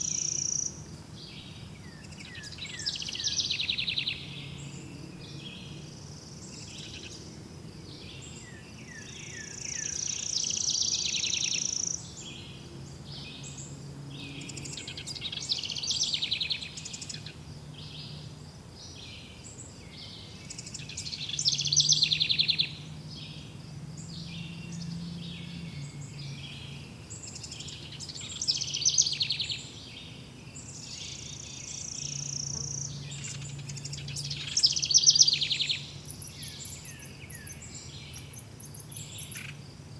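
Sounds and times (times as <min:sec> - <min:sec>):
birds singing and calling: 0:00.0 - 0:39.8.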